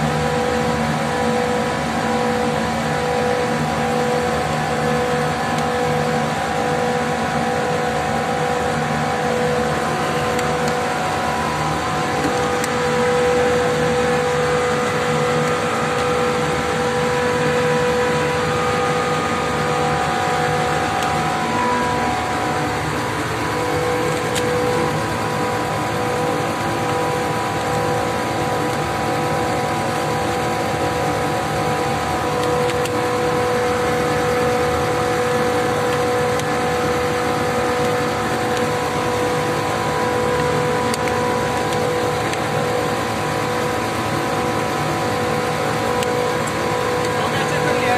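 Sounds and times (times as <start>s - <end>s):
chiller machine noise: 0.0s - 47.9s
steady machine whine: 0.0s - 47.9s.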